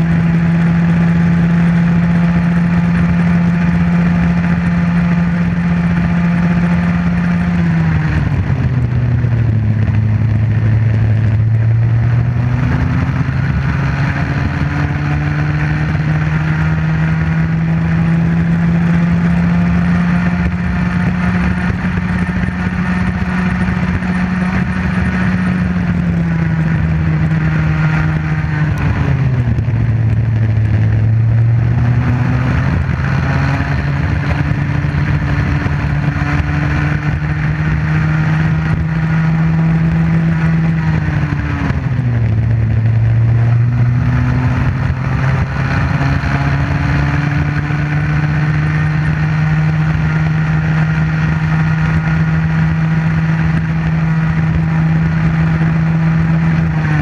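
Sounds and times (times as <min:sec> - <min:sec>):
kart engine racing: 0:00.0 - 0:57.0.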